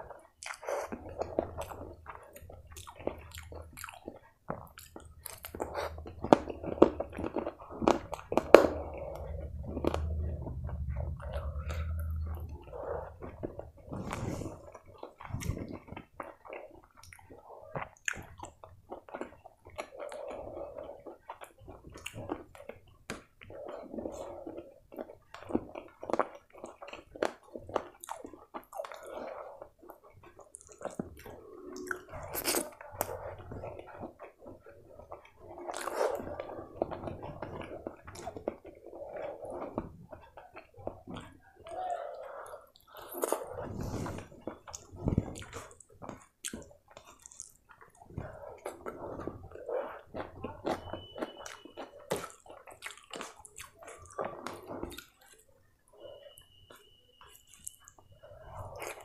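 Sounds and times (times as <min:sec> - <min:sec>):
person chewing food: 0:00.0 - 0:59.0
mouth smacks and clicks: 0:00.1 - 0:55.4.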